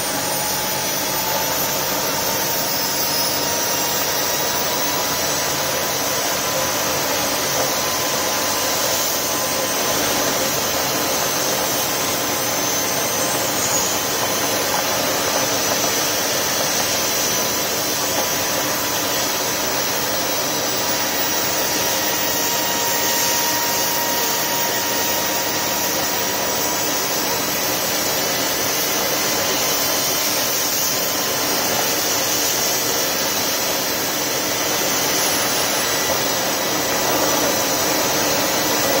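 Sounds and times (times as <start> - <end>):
faint thin whine: 0.0 - 39.0
stove roaring: 0.0 - 39.0.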